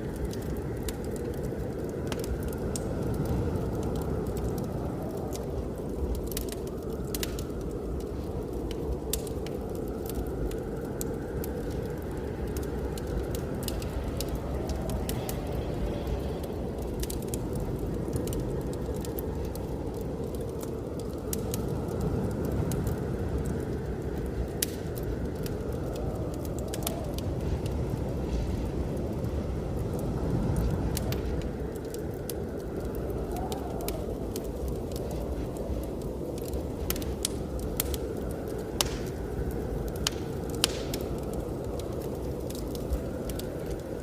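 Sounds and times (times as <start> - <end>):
blizzard wind rushing: 0.0 - 44.0
wood fire crackling and popping: 0.0 - 44.0.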